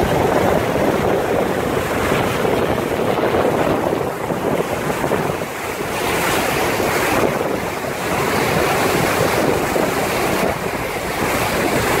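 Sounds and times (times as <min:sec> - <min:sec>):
sea waves: 0:00.0 - 0:12.0
wind buffeting microphone: 0:00.0 - 0:12.0.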